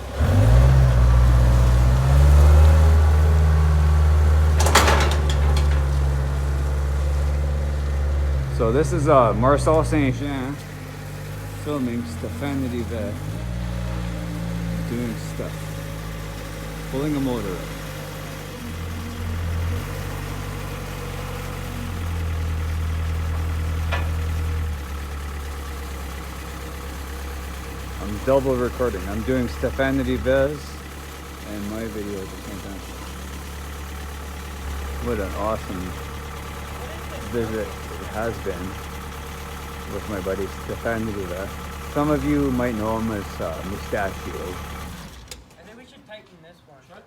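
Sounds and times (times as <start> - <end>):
quad engine starting and idling: 0.0 - 45.8.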